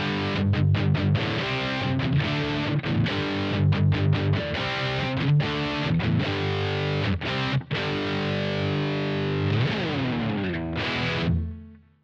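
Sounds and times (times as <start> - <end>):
distorted electric guitar chords: 0.0 - 11.9.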